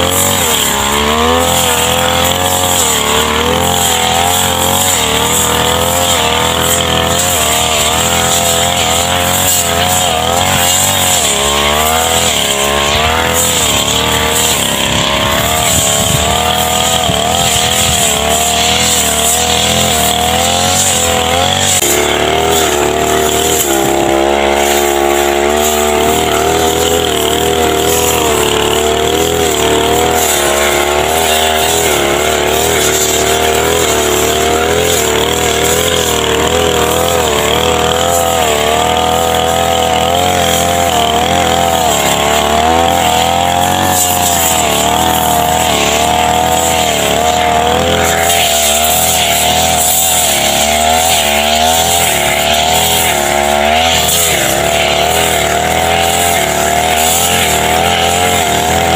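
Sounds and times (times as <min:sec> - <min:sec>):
brush cutter engine cutting grass: 0:00.0 - 0:58.9.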